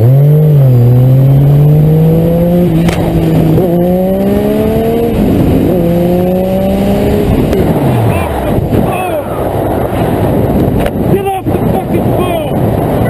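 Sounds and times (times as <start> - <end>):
motorcycle engine accelerating: 0.0 - 13.0
wind rush: 0.7 - 13.0.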